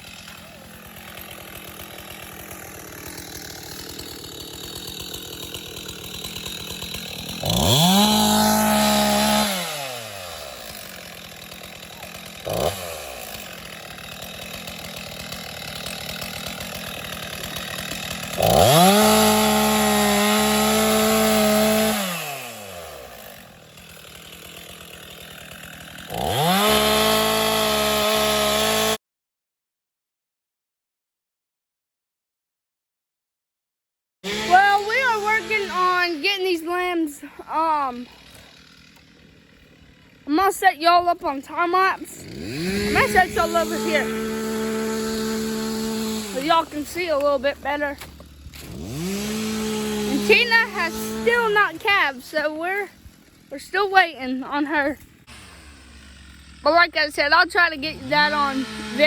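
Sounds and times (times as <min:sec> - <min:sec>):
chainsaw cutting and idling: 0:00.0 - 0:29.0, 0:34.2 - 0:59.0.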